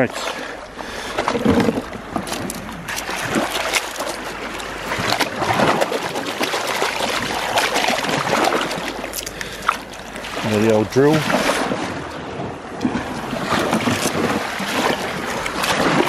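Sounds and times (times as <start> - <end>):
shallow water splashing and lapping: 0.0 - 16.0.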